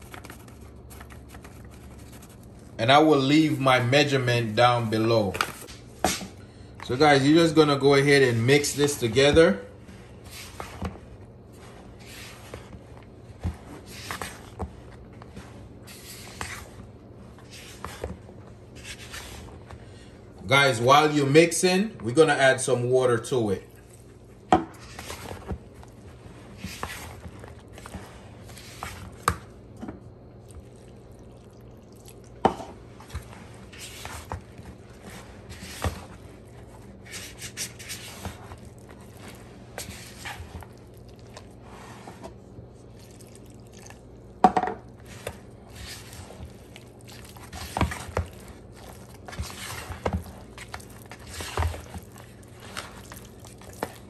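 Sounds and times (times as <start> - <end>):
spatula stirring batter: 0.0 - 6.3, 6.9 - 21.5, 22.1 - 54.0.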